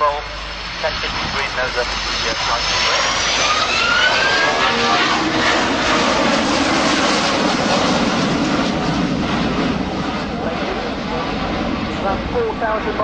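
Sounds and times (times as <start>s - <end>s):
jet engine roar: 0.0s - 13.0s
jet engine whine: 0.0s - 13.0s.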